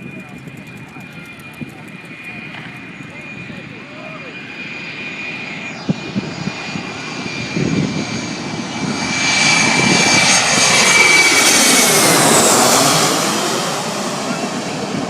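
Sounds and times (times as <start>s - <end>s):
airplane engines passing: 0.0s - 15.0s.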